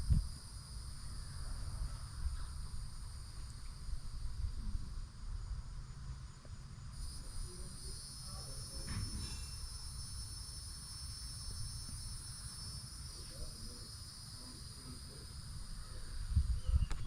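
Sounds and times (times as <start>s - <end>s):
constant low rumble: 0.0s - 17.0s
high-pitched insect chorus: 0.0s - 17.0s.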